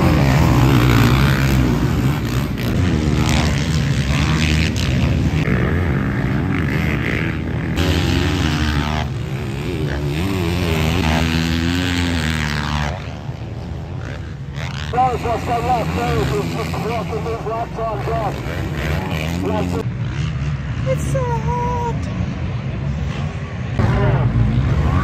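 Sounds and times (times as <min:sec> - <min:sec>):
motocross bikes revving: 0:00.0 - 0:25.0.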